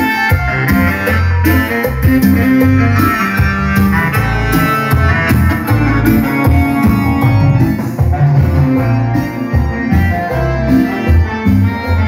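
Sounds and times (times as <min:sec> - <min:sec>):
bass line: 0:00.0 - 0:12.0
electronic keyboards: 0:00.0 - 0:12.0.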